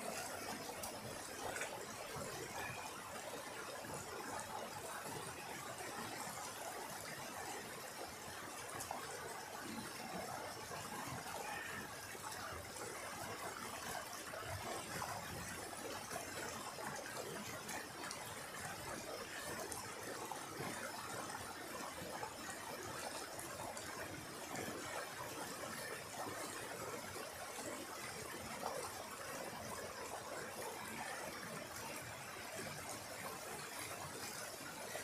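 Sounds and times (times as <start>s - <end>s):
stream splashing over stones: 0.0s - 35.0s.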